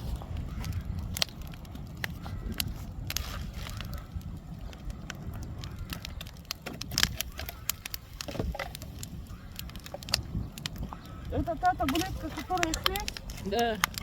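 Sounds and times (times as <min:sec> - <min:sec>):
bonfire crackling and popping: 0:00.0 - 0:14.0
low fire rumble: 0:00.0 - 0:14.0.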